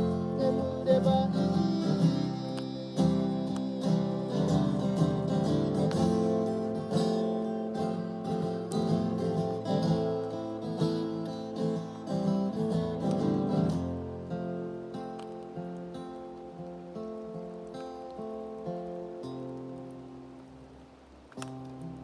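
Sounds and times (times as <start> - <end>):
acoustic guitar strumming: 0.0 - 20.3.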